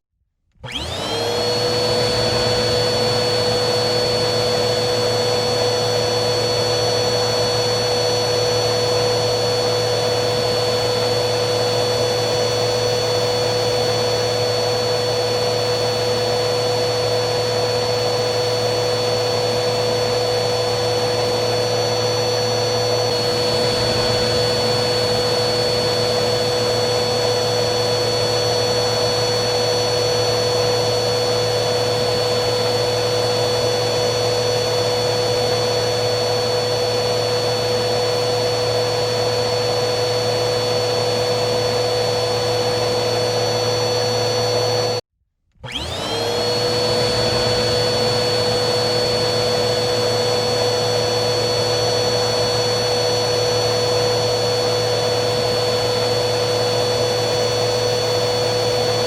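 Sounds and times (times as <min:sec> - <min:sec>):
vacuum cleaner running: 0:00.5 - 0:59.0.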